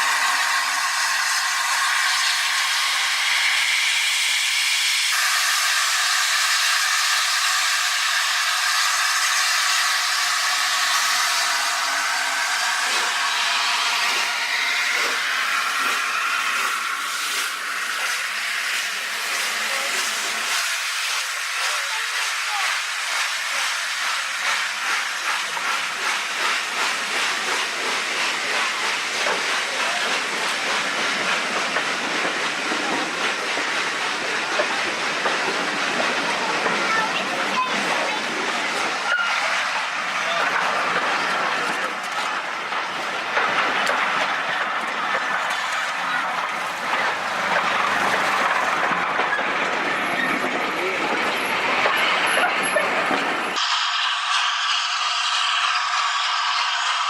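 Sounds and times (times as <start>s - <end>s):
steam hissing: 0.0s - 57.0s.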